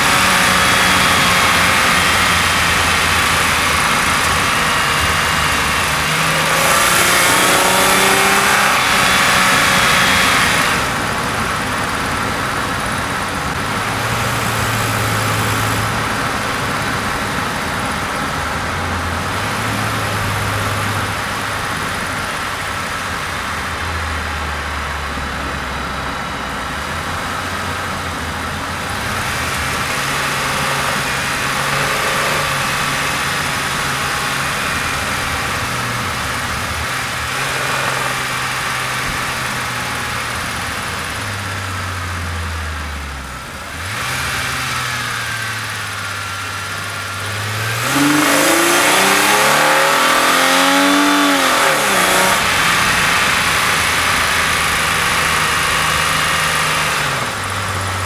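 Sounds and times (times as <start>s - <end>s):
car engine droning and revving: 0.0s - 58.0s.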